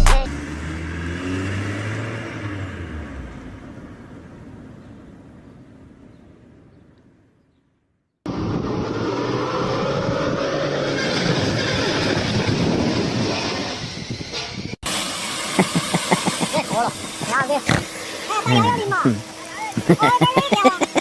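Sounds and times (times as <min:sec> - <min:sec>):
vehicle engine and road noise: 0:00.0 - 0:07.6, 0:08.2 - 0:21.0.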